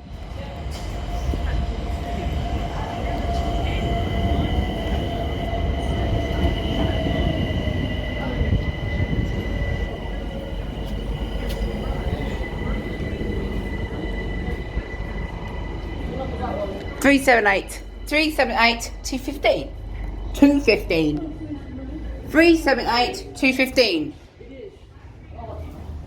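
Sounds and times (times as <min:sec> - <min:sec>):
train wheels rumbling on rail: 0:00.0 - 0:24.4.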